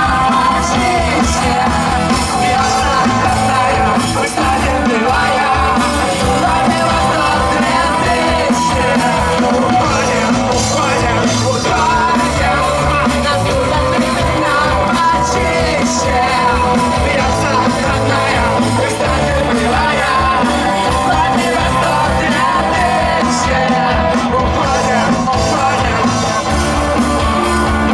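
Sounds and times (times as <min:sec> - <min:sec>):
live rock band playing: 0:00.0 - 0:27.9
person singing and yelling: 0:00.0 - 0:27.9.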